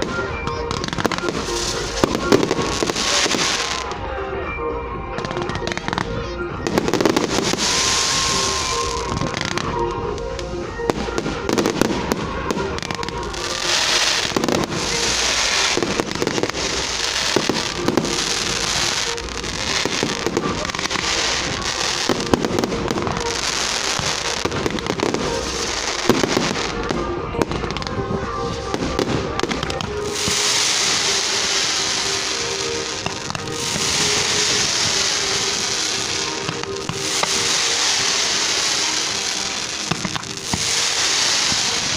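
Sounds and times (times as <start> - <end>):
fireworks bangs and cracks: 0.0 - 4.1, 5.1 - 41.9
fireworks hissing crackle: 0.0 - 4.1, 5.1 - 41.9.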